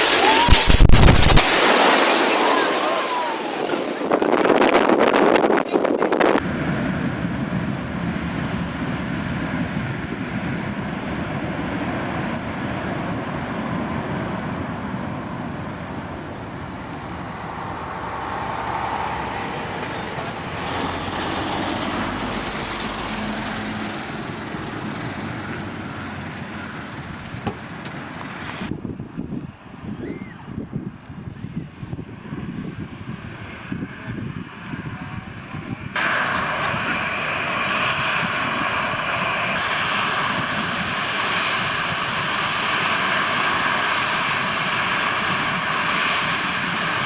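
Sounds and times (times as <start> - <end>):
jet engines roaring: 0.0 - 29.9, 31.5 - 47.0.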